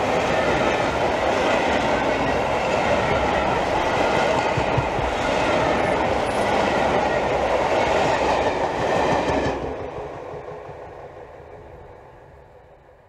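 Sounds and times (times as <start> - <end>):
train coaches passing at speed: 0.0 - 13.0.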